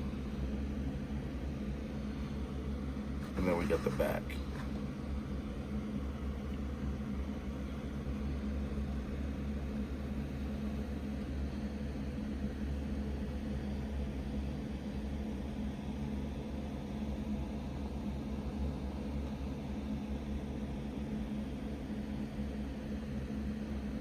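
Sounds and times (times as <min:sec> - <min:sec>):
fan or appliance hum: 0:00.0 - 0:24.0.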